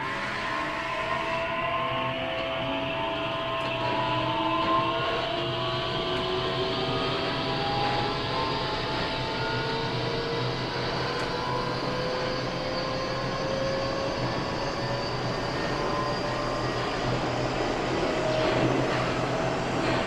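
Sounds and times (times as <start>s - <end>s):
rising motor whine: 0.0s - 19.8s
electric train rumbling: 0.0s - 20.0s.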